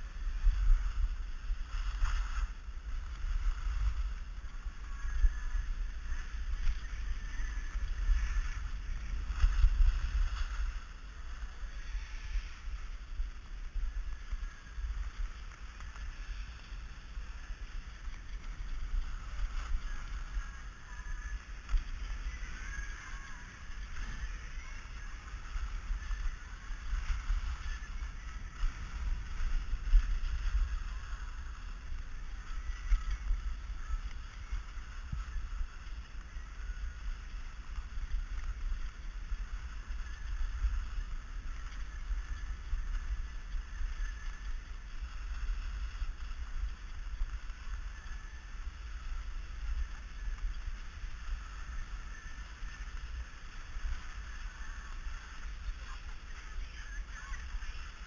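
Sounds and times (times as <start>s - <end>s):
skis scraping on snow: 0.0s - 58.0s.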